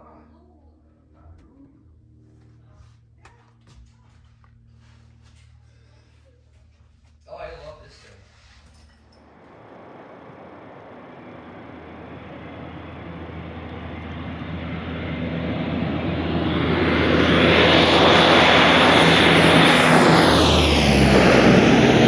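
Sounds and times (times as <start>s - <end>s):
turboprop plane passing overhead: 0.0s - 22.0s.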